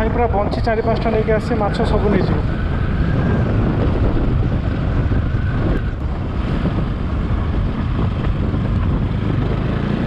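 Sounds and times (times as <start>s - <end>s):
wind rumble on microphone: 0.0s - 10.0s
motorcycle engine running: 1.1s - 10.0s.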